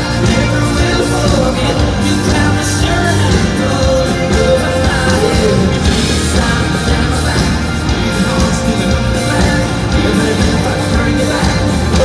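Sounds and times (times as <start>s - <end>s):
bass guitar: 0.0s - 12.0s
drums: 0.0s - 12.0s
electric guitars: 0.0s - 12.0s.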